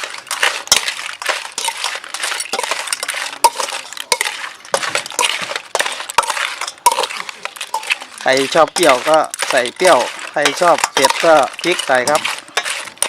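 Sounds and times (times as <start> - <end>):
spoon clinking and scraping basin: 0.0 - 13.0.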